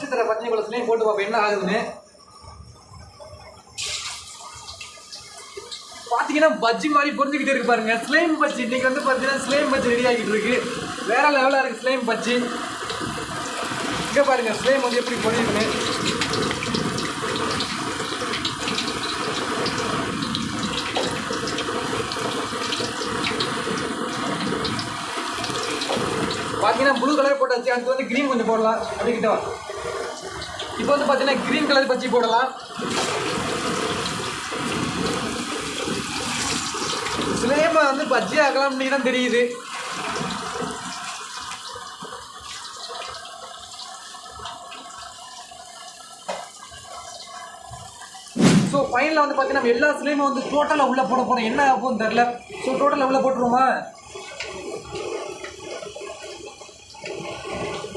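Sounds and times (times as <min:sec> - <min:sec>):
oil sizzling: 0:00.0 - 0:57.9.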